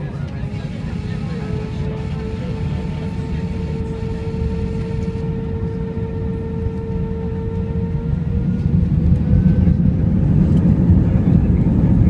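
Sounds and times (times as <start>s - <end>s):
jet engines whining and rumbling: 0.0s - 12.0s.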